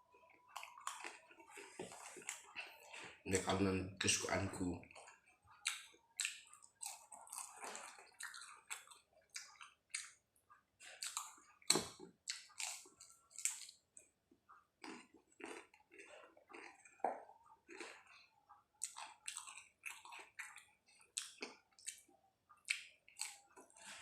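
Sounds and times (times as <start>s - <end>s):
chewing and wet mouth smacking: 0.5s - 3.2s, 4.8s - 10.2s, 10.9s - 14.1s, 14.8s - 24.0s.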